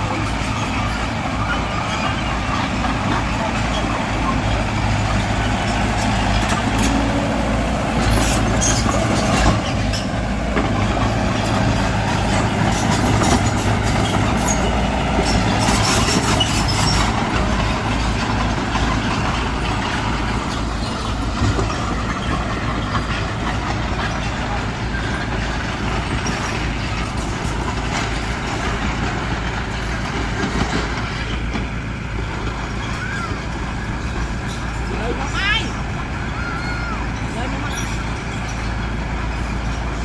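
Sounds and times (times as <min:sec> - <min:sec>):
bulldozer diesel engine running: 0:00.0 - 0:40.0
metallic squeaks and clanks: 0:00.0 - 0:40.0.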